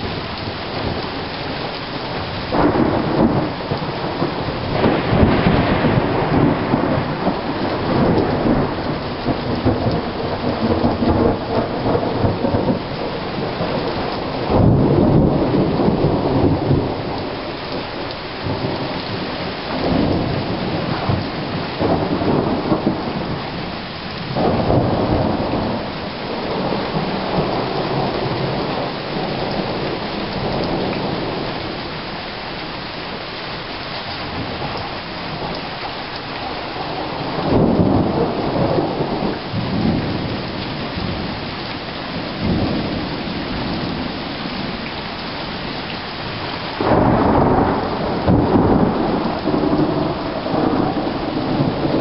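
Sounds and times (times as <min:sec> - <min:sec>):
thunder rumbling: 0:00.0 - 0:31.8, 0:34.2 - 0:52.0
rain falling: 0:00.0 - 0:52.0.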